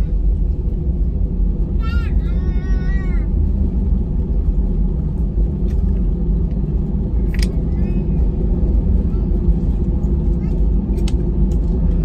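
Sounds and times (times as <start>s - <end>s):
airliner cabin rumble on runway: 0.0s - 12.0s.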